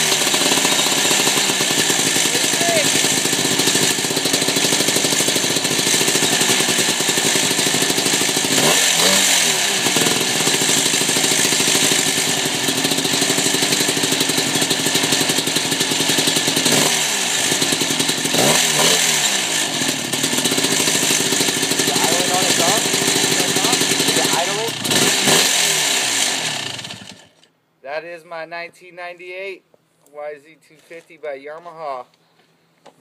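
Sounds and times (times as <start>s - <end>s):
two-stroke engine running loudly: 0.0s - 27.3s.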